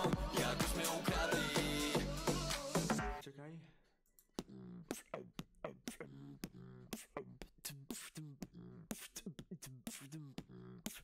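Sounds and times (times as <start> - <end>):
beatboxing: 0.0 - 3.2, 4.3 - 11.0.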